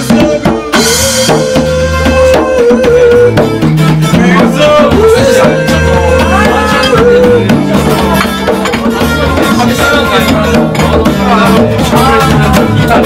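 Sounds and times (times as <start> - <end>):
acoustic guitar: 0.0 - 13.0
electric bass: 0.0 - 13.0
hand drum: 0.0 - 13.0
person singing: 0.0 - 13.0.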